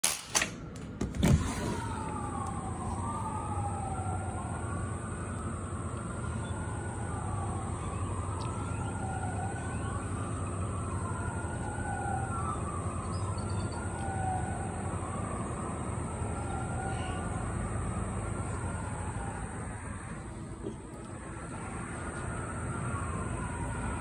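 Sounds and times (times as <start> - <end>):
emergency siren wailing: 0.6 - 24.0.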